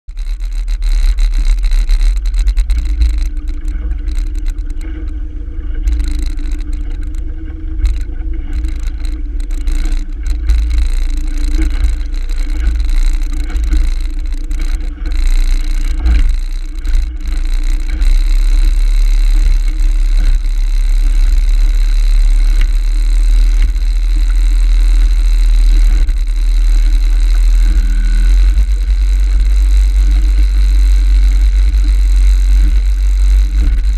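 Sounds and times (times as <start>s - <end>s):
outboard motor running: 0.0s - 33.9s
wind rumble on microphone: 0.1s - 33.9s.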